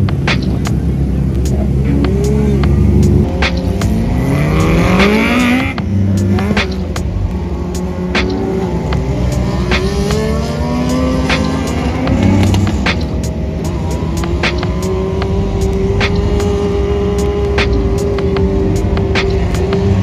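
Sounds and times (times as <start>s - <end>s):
racing car engines accelerating: 0.0s - 20.0s.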